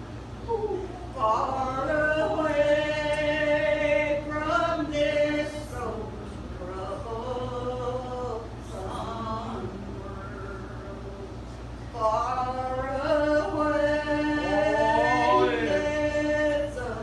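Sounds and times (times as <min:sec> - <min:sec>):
women singing gospel: 0:00.5 - 0:17.0.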